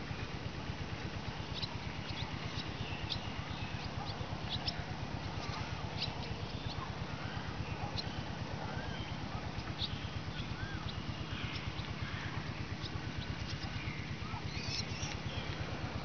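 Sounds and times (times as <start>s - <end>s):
steady low rumble: 0.0s - 16.0s
birds chirping: 1.1s - 16.0s
wavering sliding bird calls: 1.6s - 15.6s.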